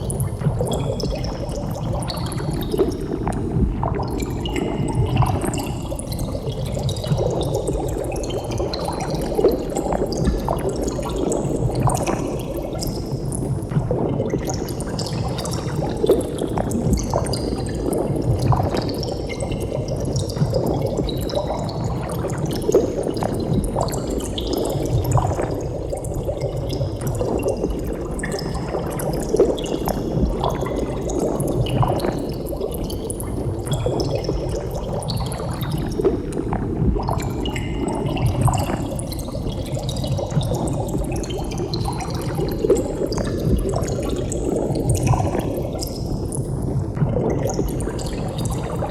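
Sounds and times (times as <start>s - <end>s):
underwater bubbling: 0.0s - 48.9s.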